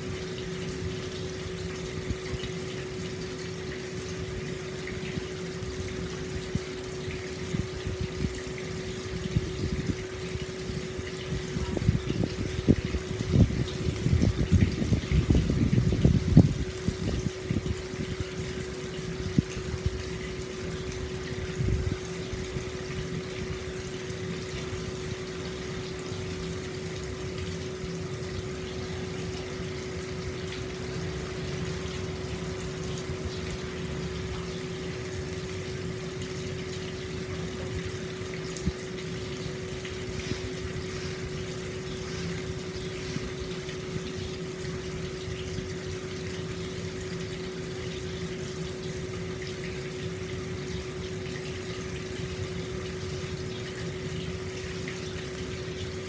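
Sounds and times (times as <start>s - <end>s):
water pouring into a bath: 0.0s - 56.0s.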